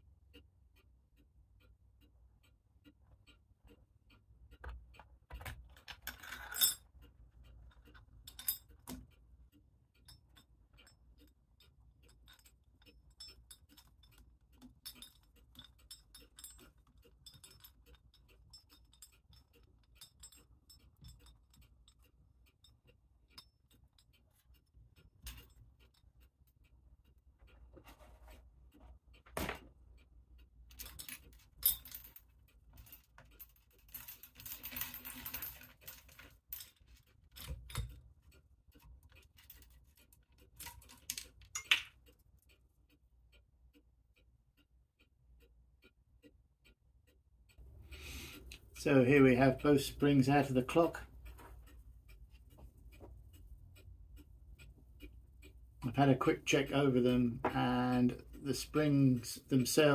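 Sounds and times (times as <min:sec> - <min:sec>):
clock winder metal clicking: 0:02.8 - 0:43.9, 0:45.8 - 0:59.9.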